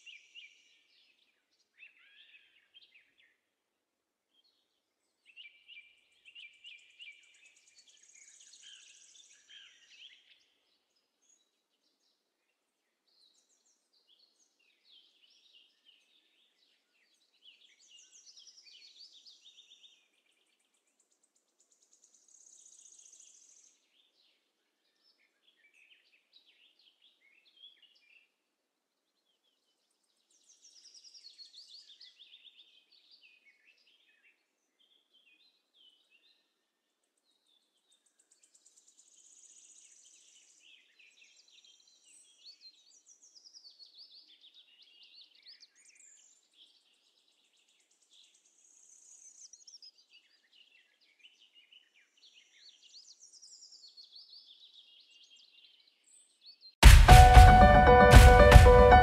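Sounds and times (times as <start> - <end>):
faint birdsong: 0.0 - 56.8.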